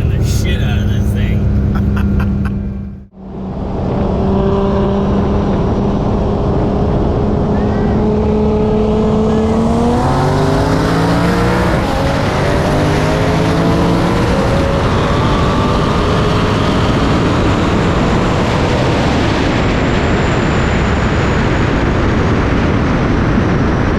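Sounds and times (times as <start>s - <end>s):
car engine accelerating hard: 0.0s - 23.9s
wind and road noise: 0.0s - 23.9s.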